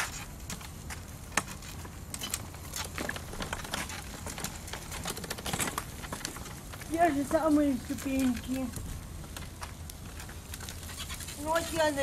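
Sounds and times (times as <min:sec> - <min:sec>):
grit crunching: 0:00.0 - 0:12.0
wheelchair tyres rolling on rough road: 0:00.0 - 0:12.0.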